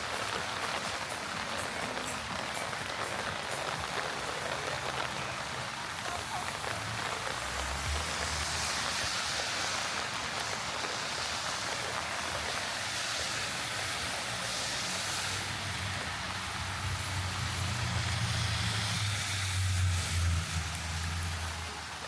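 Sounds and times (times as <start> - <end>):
heavy rain on street: 0.0 - 22.0
traffic on wet road: 0.0 - 22.0.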